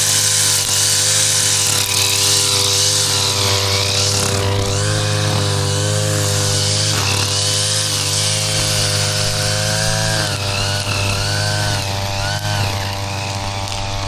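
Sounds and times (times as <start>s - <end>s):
grass trimmer engine running: 0.0s - 14.0s.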